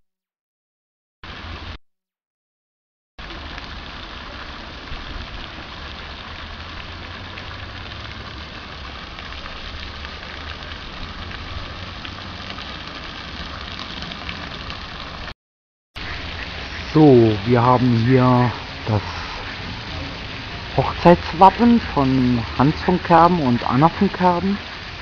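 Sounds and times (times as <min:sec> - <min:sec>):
fountain jets splashing on water: 0:01.3 - 0:01.7, 0:03.2 - 0:15.3, 0:16.0 - 0:25.0.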